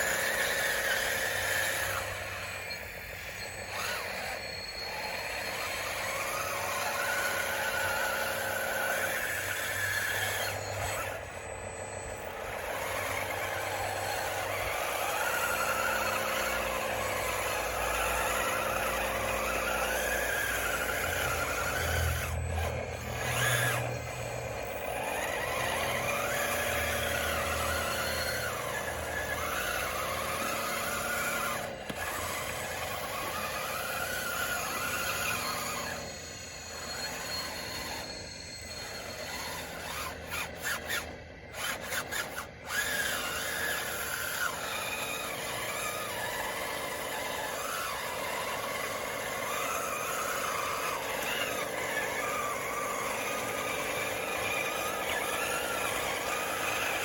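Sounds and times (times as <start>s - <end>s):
toy bulldozer motors whining: 0.0s - 57.0s.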